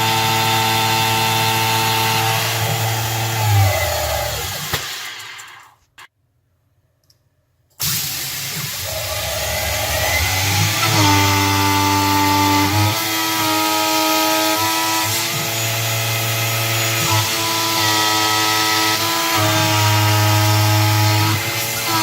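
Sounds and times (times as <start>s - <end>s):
milling machine whine: 0.0s - 5.7s, 7.9s - 22.0s.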